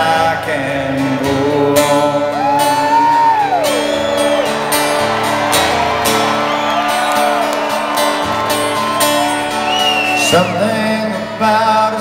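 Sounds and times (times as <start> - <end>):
guitar music with steady beat: 0.0 - 12.0.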